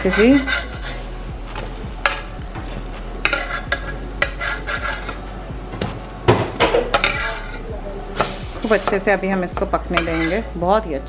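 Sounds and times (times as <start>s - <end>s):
metal spatula scraping and tapping: 0.0s - 10.7s.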